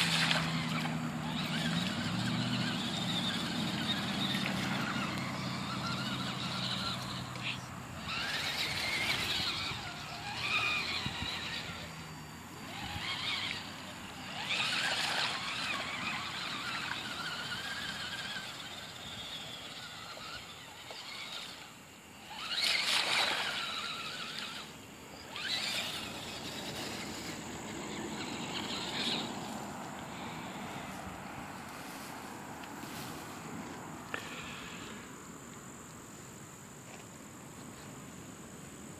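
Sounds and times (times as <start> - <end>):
electric motor whining: 0.0 - 32.1.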